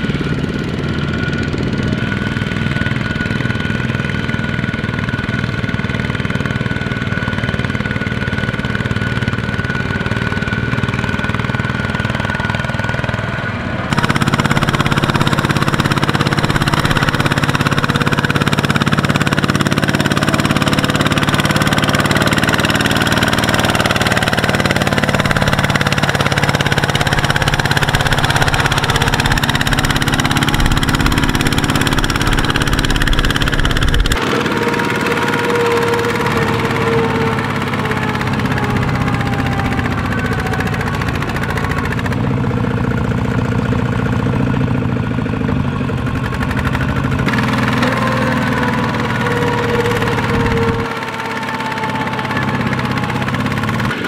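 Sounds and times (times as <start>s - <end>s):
diesel tractor engines under load: 0.0s - 54.0s.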